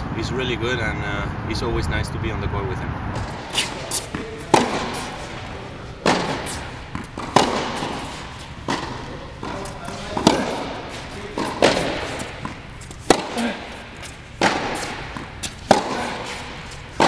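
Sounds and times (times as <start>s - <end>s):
racket striking tennis ball: 3.2s - 17.0s.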